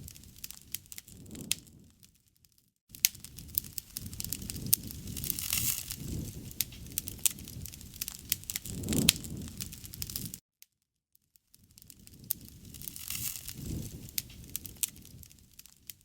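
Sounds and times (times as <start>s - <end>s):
low rush of flames: 0.0s - 2.1s, 2.9s - 10.4s, 11.7s - 16.0s
campfire crackling and popping: 0.0s - 2.2s, 2.9s - 10.4s, 11.6s - 16.0s.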